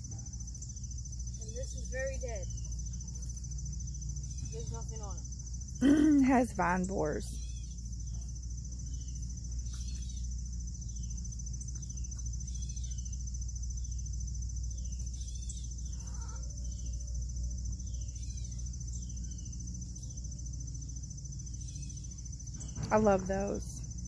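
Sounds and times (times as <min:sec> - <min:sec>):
bird chirping: 0:00.0 - 0:23.6
crickets trilling: 0:00.0 - 0:24.0
low steady rumble: 0:00.0 - 0:24.0.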